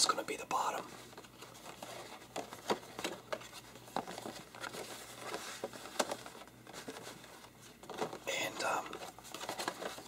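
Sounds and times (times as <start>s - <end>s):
card taps and rustles: 0.5s - 10.0s.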